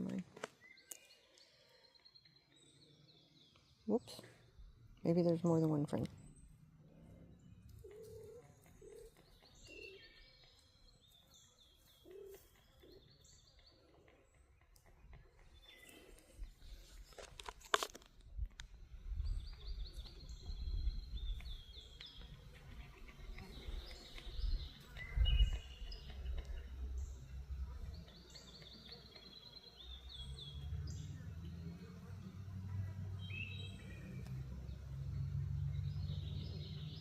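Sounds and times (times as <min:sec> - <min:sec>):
small birds chirping: 0:00.0 - 0:17.4, 0:18.6 - 0:37.0.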